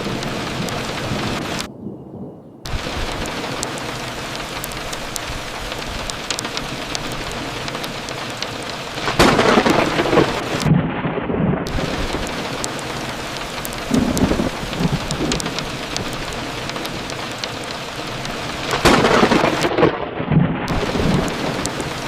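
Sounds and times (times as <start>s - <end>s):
sharp drip ticks: 0.0s - 1.7s, 2.6s - 10.7s, 11.7s - 19.7s, 20.7s - 22.0s
steady rain falling: 0.0s - 10.8s, 11.6s - 22.0s
thunder cracking and rumbling: 0.0s - 22.0s.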